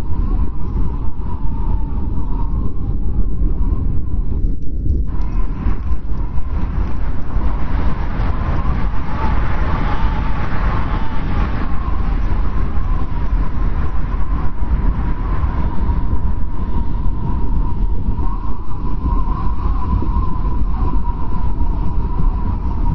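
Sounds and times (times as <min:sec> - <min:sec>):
strong wind blowing: 0:00.0 - 0:22.9.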